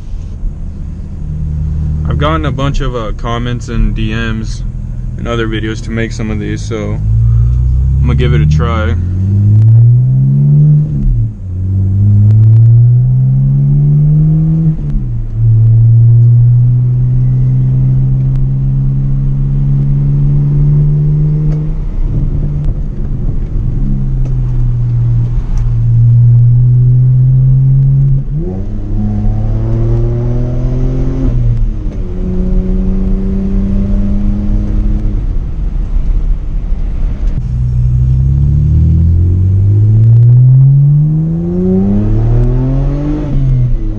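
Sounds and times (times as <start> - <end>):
car exhaust accelerating: 0.0 - 43.9.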